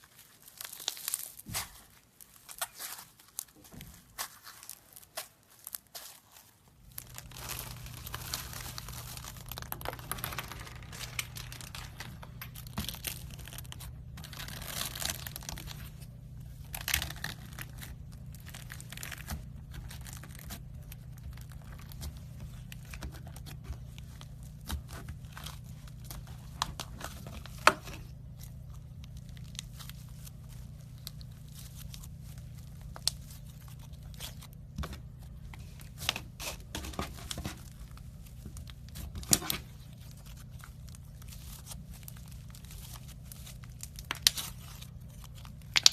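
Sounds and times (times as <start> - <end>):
slime crackling and popping: 0.1 - 45.9.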